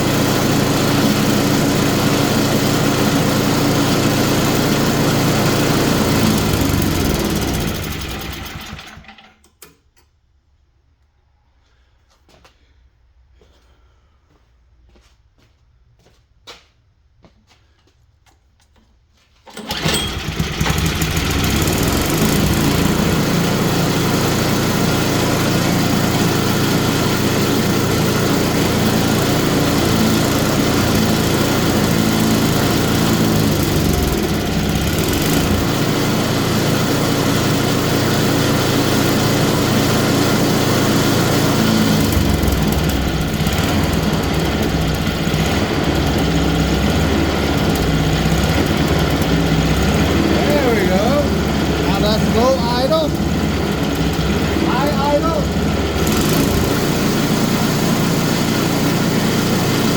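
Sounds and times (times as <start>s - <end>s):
snowblower engine running: 0.0s - 9.4s, 19.5s - 59.9s.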